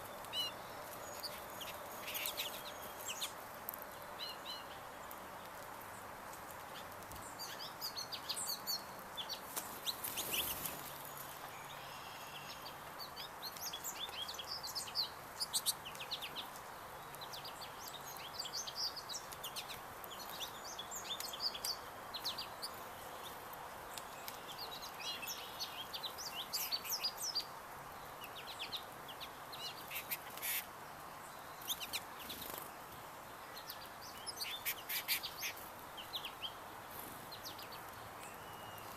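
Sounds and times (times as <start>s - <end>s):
small birds chirping: 0.0s - 38.9s
steady background hiss: 0.0s - 38.9s.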